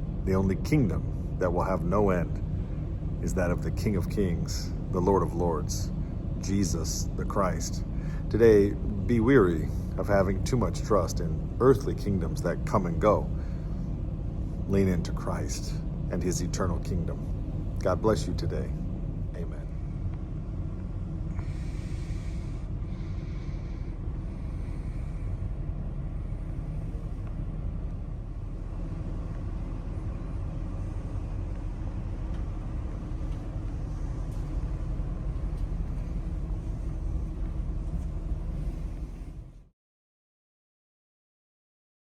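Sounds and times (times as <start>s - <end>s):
low rumbling noise: 0.0s - 39.7s.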